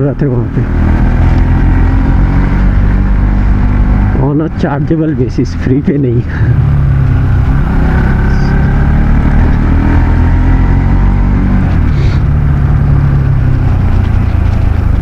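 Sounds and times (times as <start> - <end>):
dense low rumble: 0.0 - 15.0
motorcycle engine running: 0.6 - 15.0.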